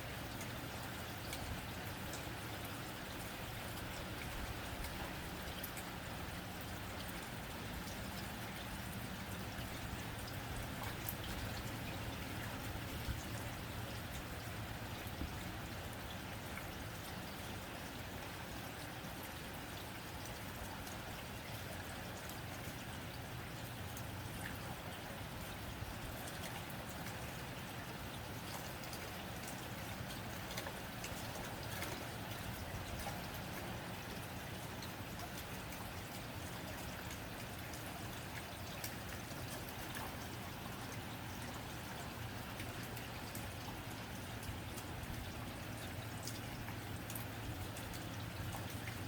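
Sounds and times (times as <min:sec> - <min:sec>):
rain on a tin roof: 0:00.0 - 0:49.0.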